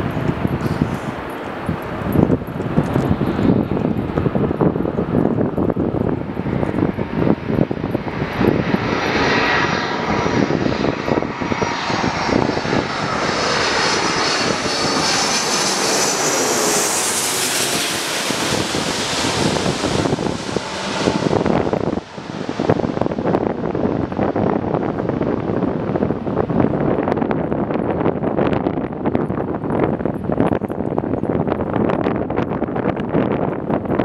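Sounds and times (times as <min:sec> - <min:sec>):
jet engines roaring past: 0:00.0 - 0:34.0
wind buffeting microphone: 0:00.0 - 0:34.0.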